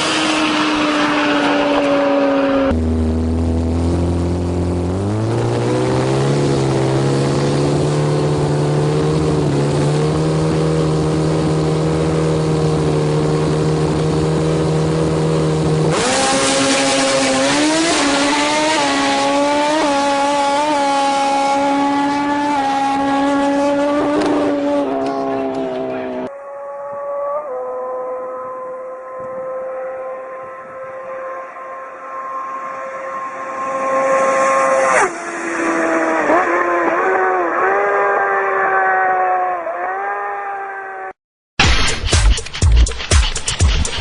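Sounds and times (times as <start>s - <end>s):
motorcycle engine revving high: 0.0s - 42.1s.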